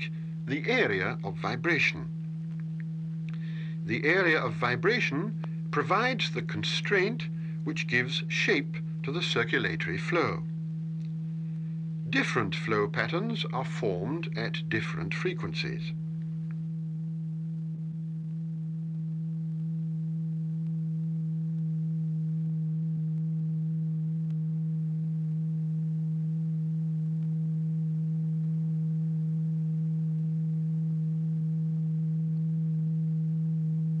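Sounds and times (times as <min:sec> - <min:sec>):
steady low pure tone: 0:00.0 - 0:34.0.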